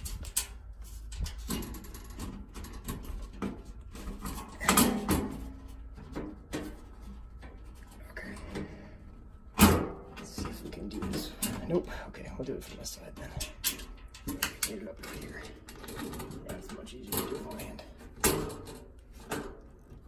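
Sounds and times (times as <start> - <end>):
knocks and scraping of metal panel: 0.0 - 12.0, 12.7 - 20.0.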